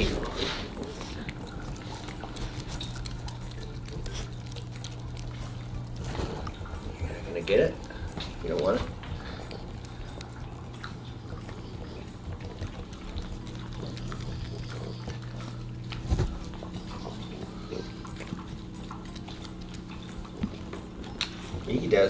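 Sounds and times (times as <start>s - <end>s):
dog chewing: 0.0s - 22.0s.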